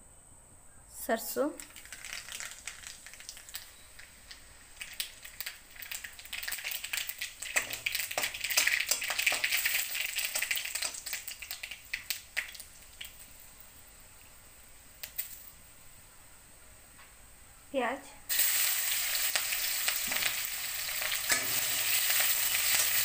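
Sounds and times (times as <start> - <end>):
mustard seeds popping in hot oil: 1.5 - 15.6, 18.3 - 23.0.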